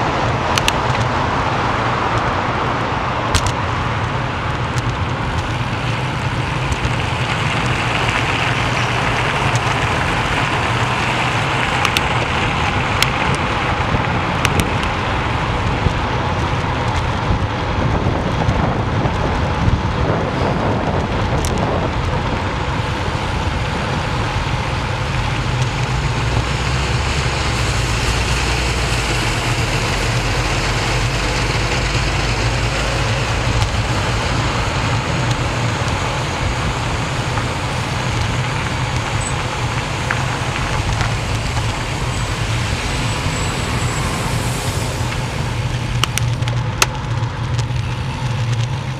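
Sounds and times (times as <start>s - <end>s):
road traffic rumbling: 0.0s - 48.9s
wind rushing over microphone: 0.0s - 48.9s.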